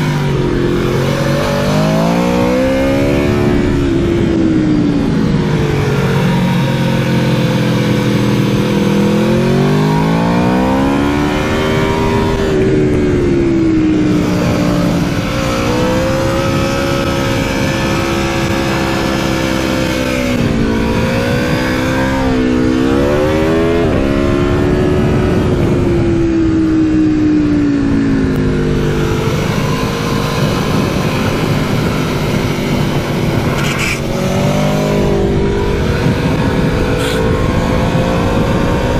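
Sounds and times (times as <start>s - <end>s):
motorcycle engine revving hard: 0.0s - 38.9s
wind noise: 0.0s - 38.9s.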